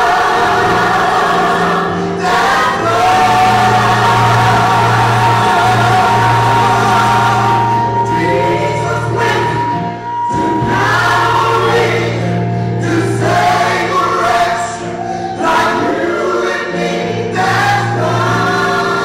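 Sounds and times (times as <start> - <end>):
gospel choir singing: 0.0 - 19.0.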